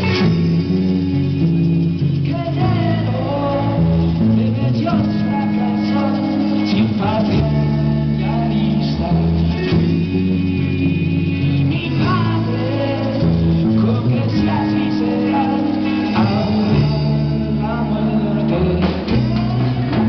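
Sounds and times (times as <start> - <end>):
bass line: 0.0 - 20.0
conga drums: 0.0 - 20.0
electric guitars: 0.0 - 20.0.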